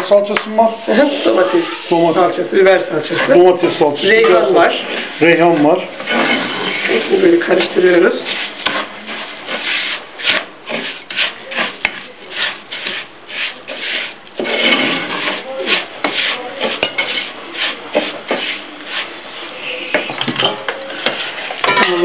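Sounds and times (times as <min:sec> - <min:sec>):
wooden spoon scraping a pot: 0:00.6 - 0:22.0.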